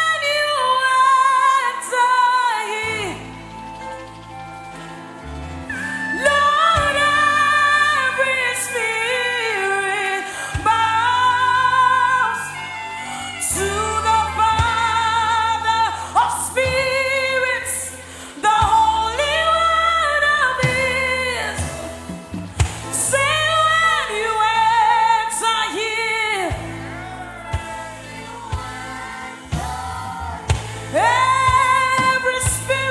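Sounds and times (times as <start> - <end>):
person singing gospel: 0.0 - 4.5, 5.4 - 32.9
instrumental backing: 0.0 - 32.9.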